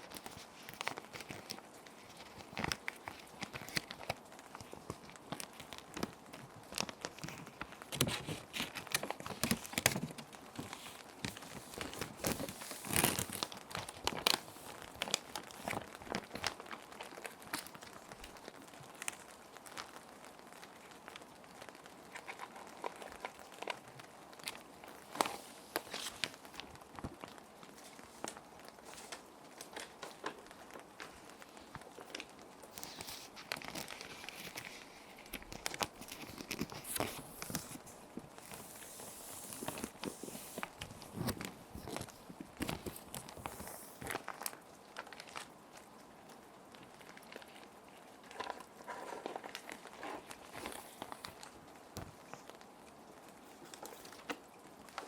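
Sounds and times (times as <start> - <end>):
plastic sheet protectors crinkling: 0.0 - 55.0
soft rain: 0.0 - 55.0.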